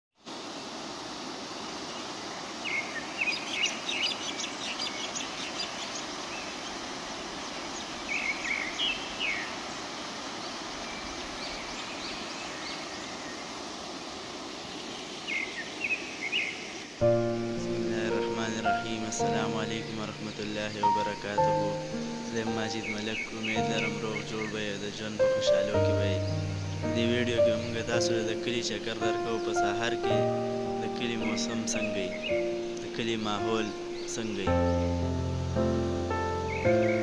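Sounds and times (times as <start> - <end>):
river rushing over rocks: 0.2 - 35.4
small birds chirping: 1.5 - 37.0.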